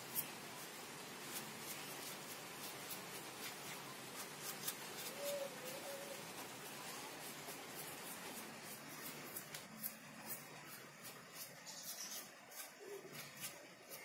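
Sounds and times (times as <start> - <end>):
brush scratching and rustling: 0.0 - 14.0.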